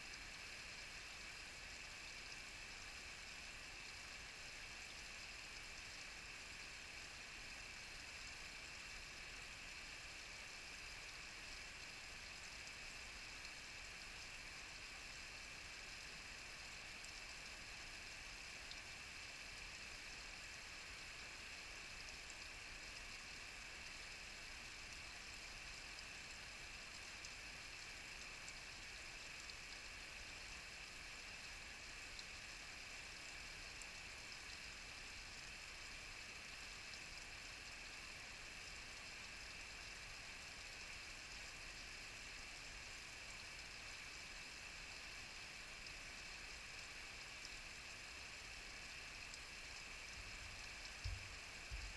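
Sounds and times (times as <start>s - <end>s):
small waterfall trickling: 0.0s - 51.9s
tiny water drips: 0.1s - 51.9s.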